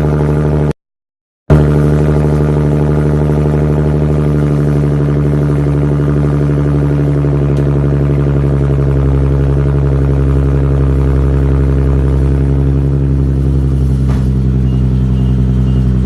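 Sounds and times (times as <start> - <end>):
car engine idling: 0.0 - 0.7, 1.5 - 16.0.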